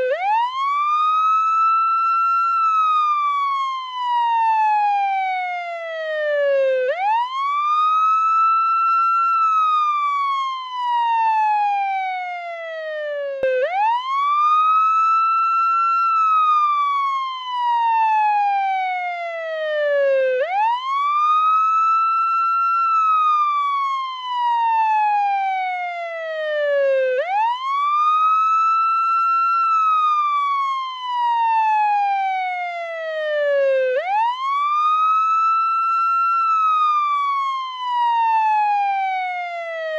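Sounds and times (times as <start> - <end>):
ambulance wail siren: 0.0 - 39.9.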